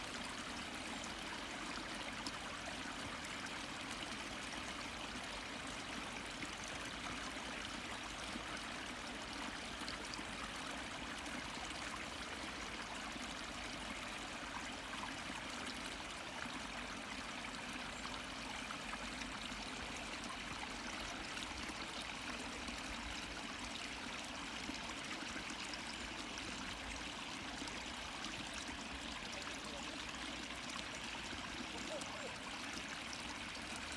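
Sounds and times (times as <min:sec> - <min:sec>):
water flowing into a pond: 0:00.0 - 0:33.9.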